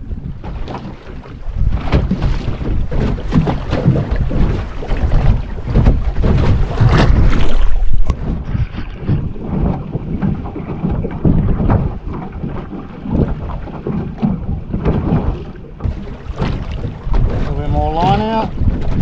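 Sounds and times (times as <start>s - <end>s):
waves lapping against boat hull: 0.0s - 19.0s
wind buffeting microphone: 0.0s - 19.0s.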